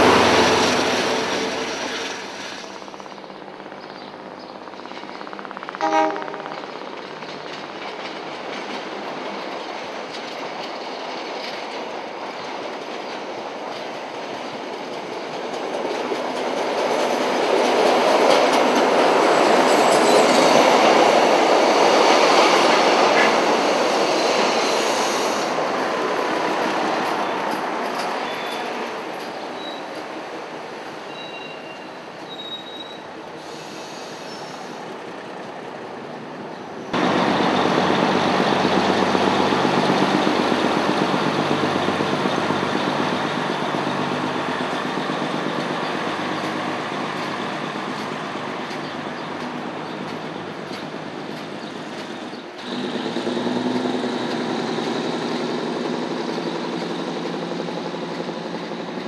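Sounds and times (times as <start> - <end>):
diesel train engine: 0.0 - 59.0
steel wheels on rails: 0.0 - 59.0.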